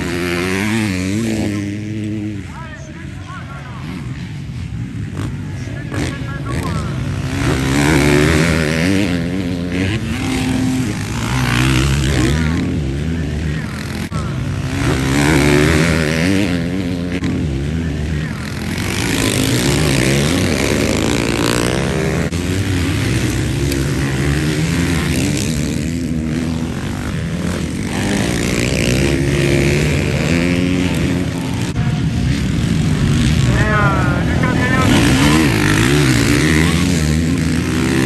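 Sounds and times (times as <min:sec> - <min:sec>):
motocross bikes revving past: 0:00.0 - 0:38.0.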